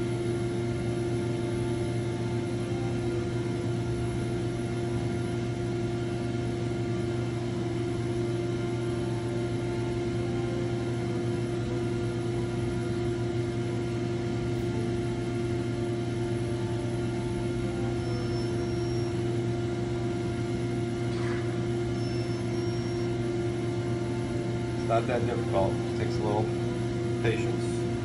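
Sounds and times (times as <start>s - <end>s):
kitchen equipment humming: 0.0s - 28.0s.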